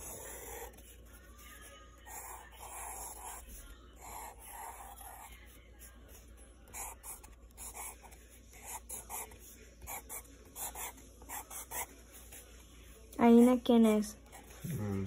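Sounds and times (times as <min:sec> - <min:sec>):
pencil scratching on paper: 0:00.0 - 0:13.6, 0:14.2 - 0:14.6.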